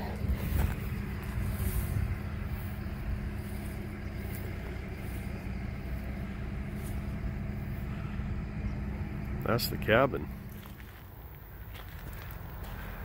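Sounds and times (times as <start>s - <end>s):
low engine hum: 0.0s - 13.0s
low rumble: 0.0s - 13.0s.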